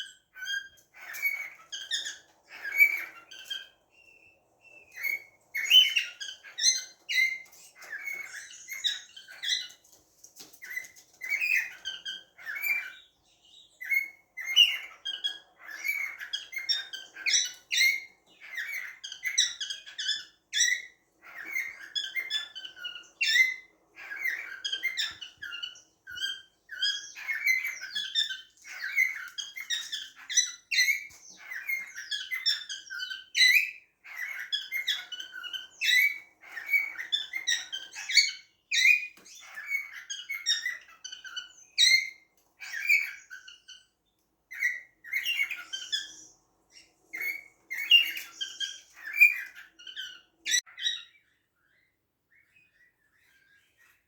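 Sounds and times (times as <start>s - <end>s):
cockatiels chirping and squeaking: 0.0s - 54.0s.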